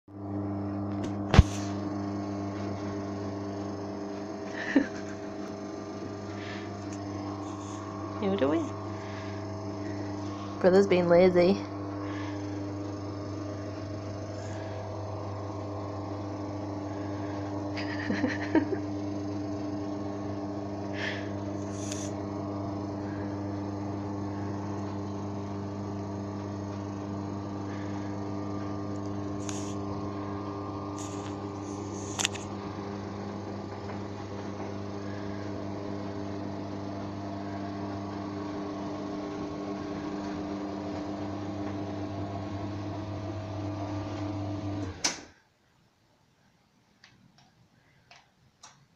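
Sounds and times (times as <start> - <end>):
stairlift motor humming: 0.1 - 45.3.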